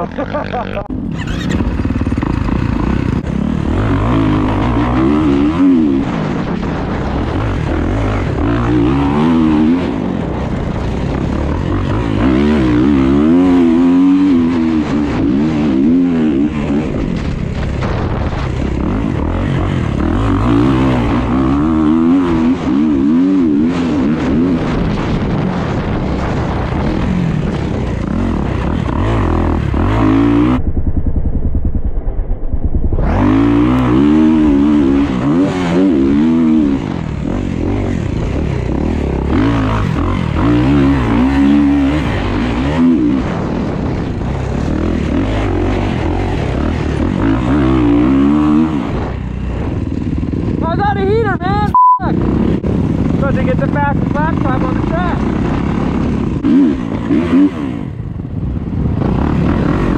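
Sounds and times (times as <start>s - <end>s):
dirt bike engine revving: 0.0s - 31.8s, 32.6s - 59.9s
wind noise: 0.0s - 59.9s.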